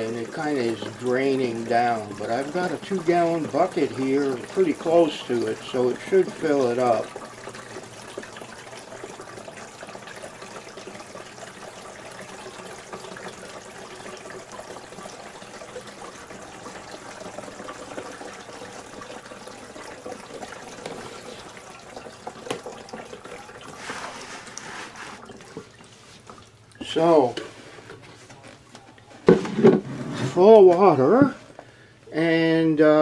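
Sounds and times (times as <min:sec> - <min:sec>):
water pouring into tank: 0:00.0 - 0:28.0.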